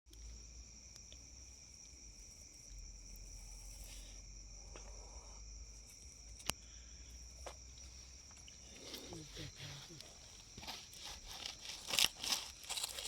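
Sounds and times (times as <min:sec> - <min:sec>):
insects droning: 0:00.1 - 0:13.0.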